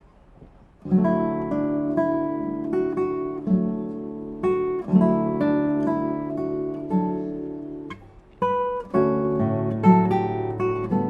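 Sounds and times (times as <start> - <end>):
acoustic guitar strumming: 0.8 - 11.0.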